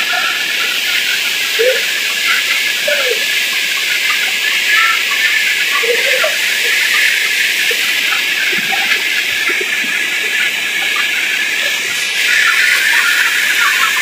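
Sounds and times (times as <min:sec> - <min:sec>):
waterfall rushing over rock: 0:00.0 - 0:14.0.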